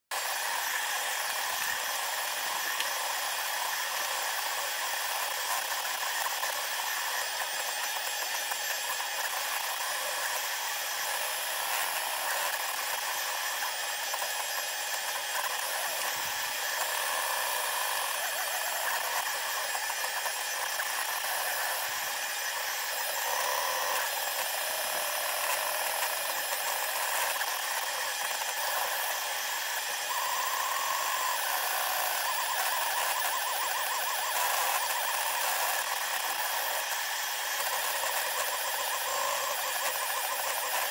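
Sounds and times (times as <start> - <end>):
high-pitched printer whirring: 0.1 - 40.9.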